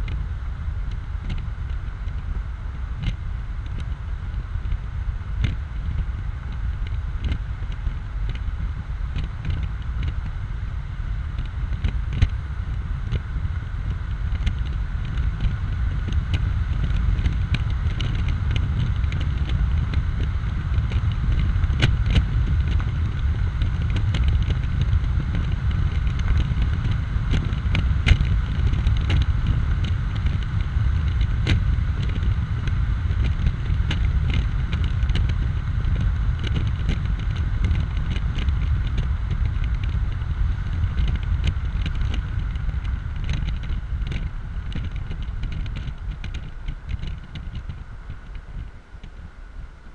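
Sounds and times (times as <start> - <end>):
road noise: 0.0 - 49.9
wind buffeting microphone: 0.0 - 49.9.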